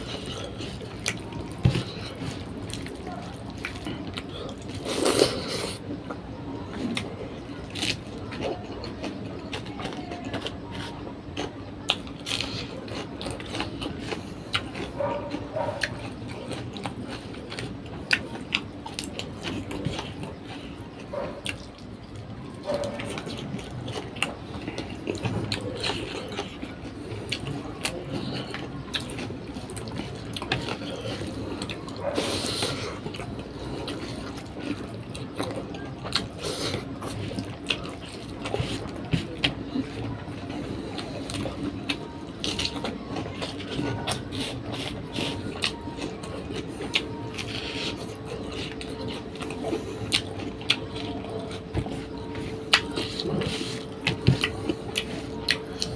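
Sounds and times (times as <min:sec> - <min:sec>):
person chewing wetly: 0:00.0 - 0:55.9.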